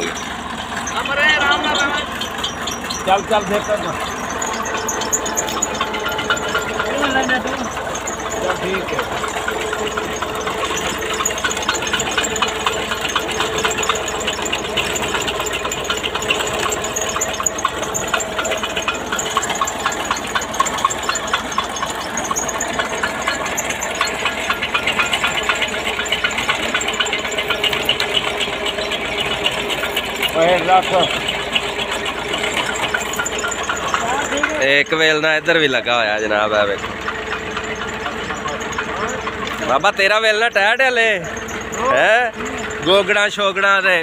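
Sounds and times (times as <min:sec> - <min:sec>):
engine running steadily: 0:00.0 - 0:44.0
gears and rollers clattering: 0:00.0 - 0:44.0.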